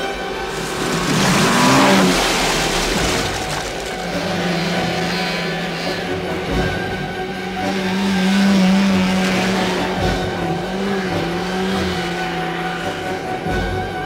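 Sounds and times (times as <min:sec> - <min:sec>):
snowmobile engines whining: 0:00.0 - 0:14.0.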